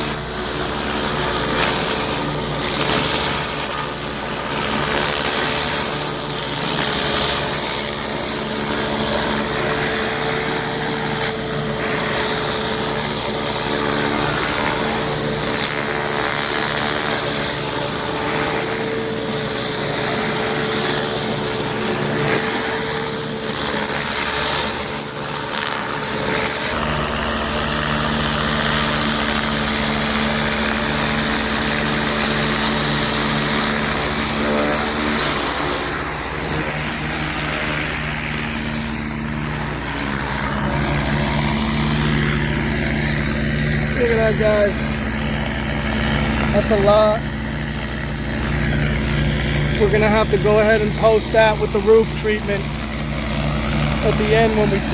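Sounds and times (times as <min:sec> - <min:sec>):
pressure washer engine hum: 0:00.0 - 0:54.9.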